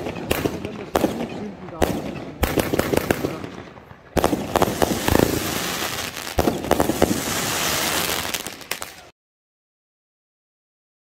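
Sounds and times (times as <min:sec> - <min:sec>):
firecrackers banging and crackling: 0:00.0 - 0:09.1.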